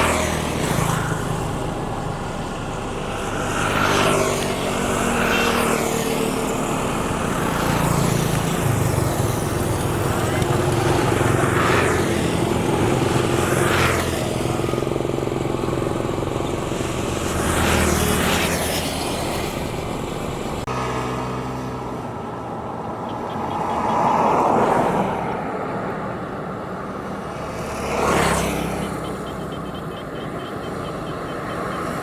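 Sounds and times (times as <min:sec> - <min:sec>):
vehicles passing on road: 0:00.0 - 0:32.0.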